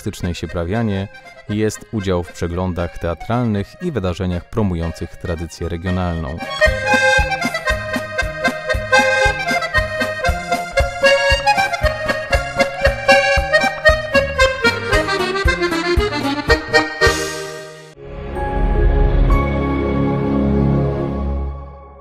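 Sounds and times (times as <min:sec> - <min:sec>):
accordion folk tune: 0:00.0 - 0:21.7.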